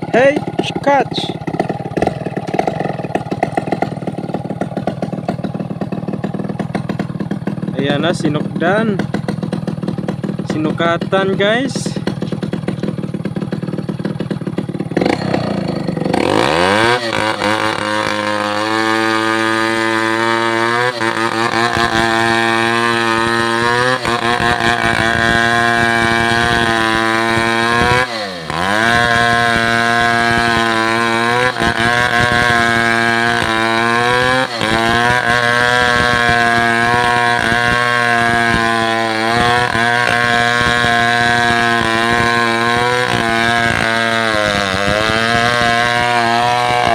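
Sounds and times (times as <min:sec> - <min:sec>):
two-stroke chainsaw engine revving: 0:00.0 - 0:46.9.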